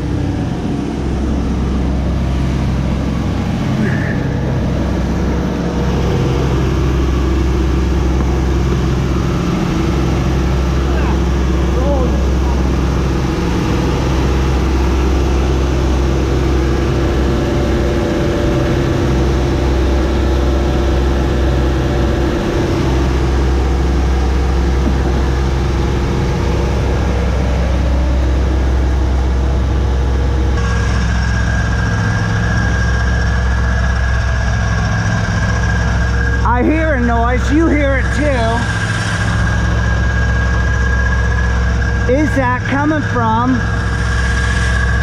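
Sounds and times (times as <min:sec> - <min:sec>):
drivetrain hum: 0:00.0 - 0:45.0
high whine near wheel hub: 0:00.0 - 0:45.0.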